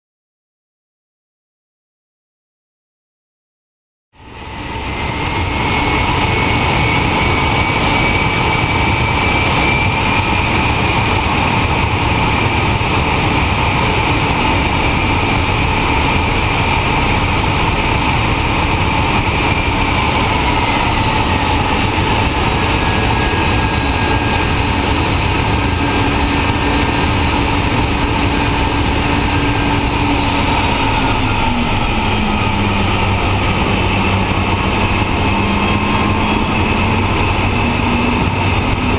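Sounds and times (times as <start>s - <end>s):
jet engines running: 4.2s - 38.9s
lower engine whine: 4.2s - 38.9s.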